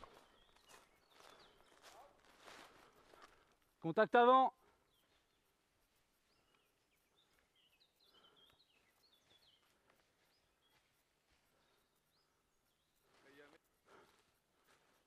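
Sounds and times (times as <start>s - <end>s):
faint bird chirps: 0.0s - 3.0s, 4.5s - 15.0s.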